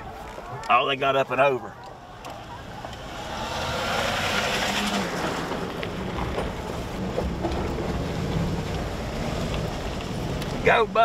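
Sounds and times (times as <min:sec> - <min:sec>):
engine and tyres rumbling on gravel: 0:00.0 - 0:11.0.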